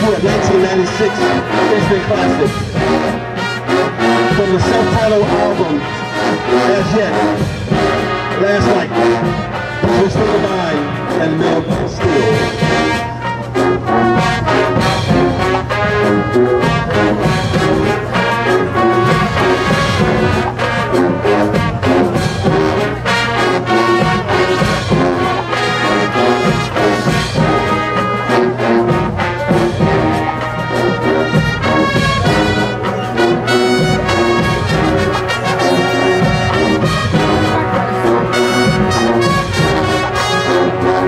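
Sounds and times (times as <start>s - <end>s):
brass band chords: 0.0s - 41.0s
drumline hits: 0.0s - 41.0s.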